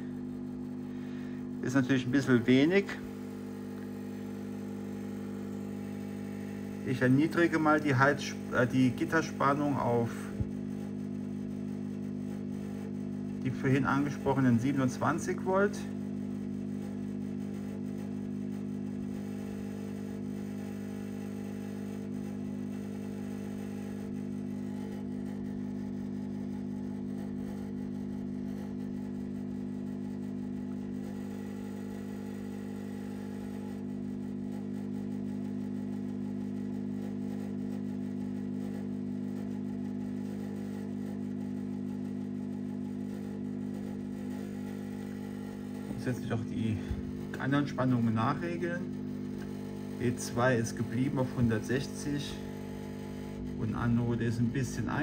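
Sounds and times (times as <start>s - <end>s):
tube tester humming: 0.0s - 55.0s.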